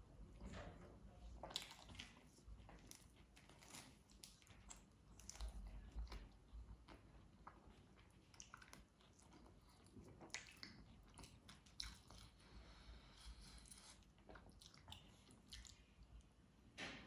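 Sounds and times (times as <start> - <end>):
bread squishing through curry: 1.1 - 16.6.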